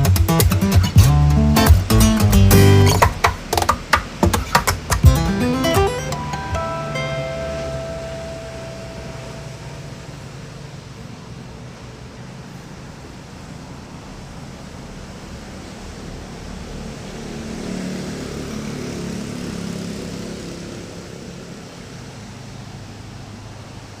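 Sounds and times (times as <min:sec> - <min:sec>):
road and wind noise: 0:00.1 - 0:24.0.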